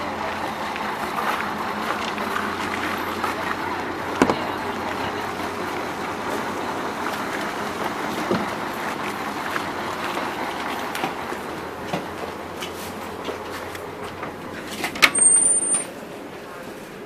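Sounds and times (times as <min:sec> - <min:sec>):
diesel railbus rumbling: 0:00.0 - 0:17.0.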